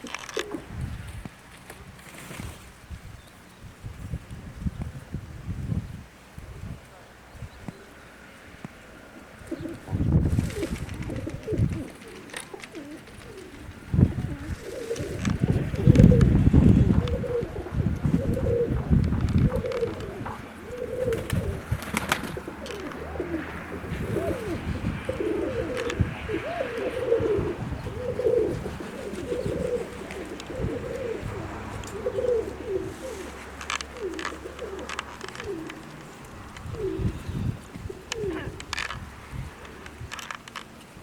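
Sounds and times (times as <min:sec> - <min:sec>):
pigeons cooing: 0:00.0 - 0:03.6, 0:06.5 - 0:41.0.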